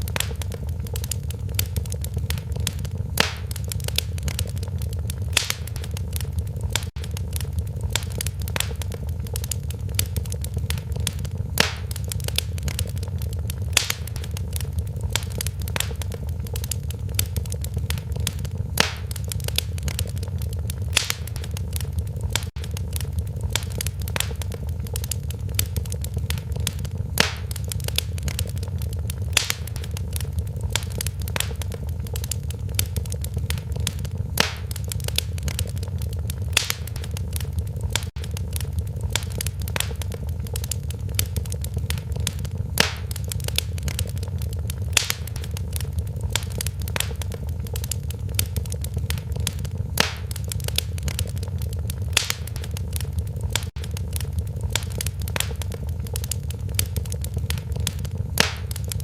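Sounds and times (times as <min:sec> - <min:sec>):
fire popping: 0:00.0 - 0:59.0
wood fire crackling: 0:00.0 - 0:59.0.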